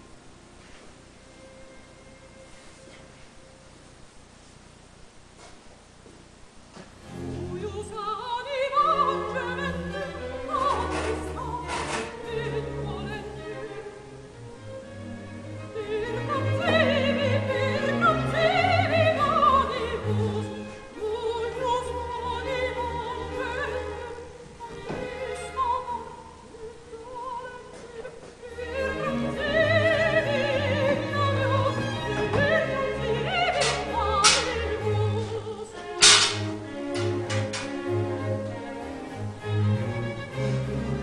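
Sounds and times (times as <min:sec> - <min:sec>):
opera singer with orchestra: 0:07.0 - 0:41.0.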